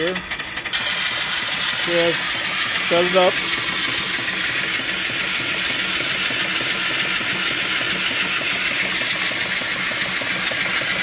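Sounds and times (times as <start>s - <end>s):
rhythmic mechanical clatter: 0.0s - 11.0s
steam engine hissing: 0.0s - 11.0s.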